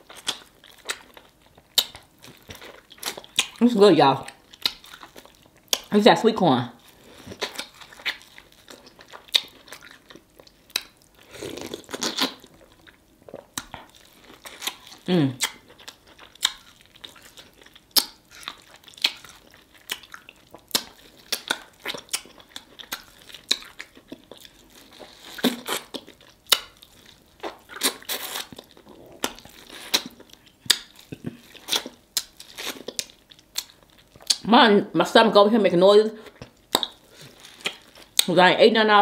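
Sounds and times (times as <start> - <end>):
chewing and lip-smacking: 0.0 - 3.6, 4.2 - 5.9, 6.8 - 34.5, 36.2 - 38.4.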